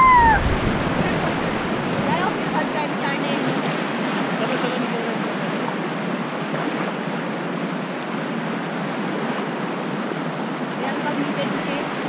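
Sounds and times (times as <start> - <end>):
river rapids rushing: 0.0 - 12.0
whitewater splashing: 0.0 - 12.0.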